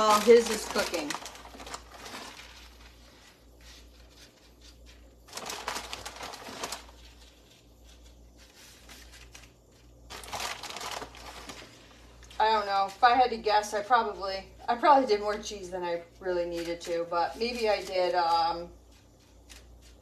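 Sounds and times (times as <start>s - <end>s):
plastic bag crinkling: 0.0s - 13.2s, 16.4s - 20.0s
low steady hum: 0.0s - 20.0s.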